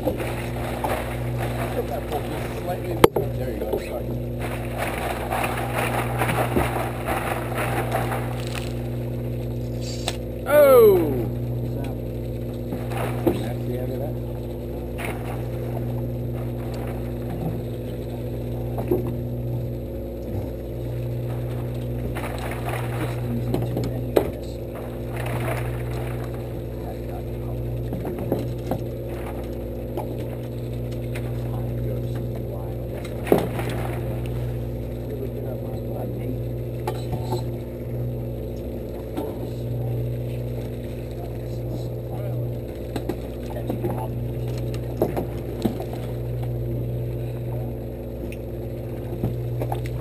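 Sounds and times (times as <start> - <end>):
boat engine humming: 0.0 - 50.0.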